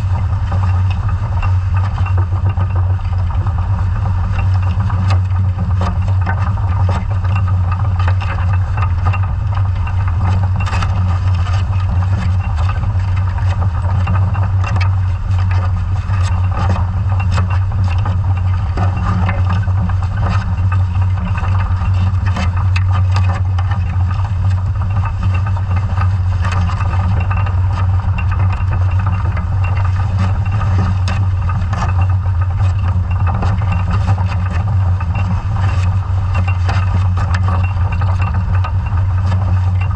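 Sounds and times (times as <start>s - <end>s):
irregular clicks and knocks: 0.0s - 39.9s
low underwater engine drone: 0.0s - 39.9s.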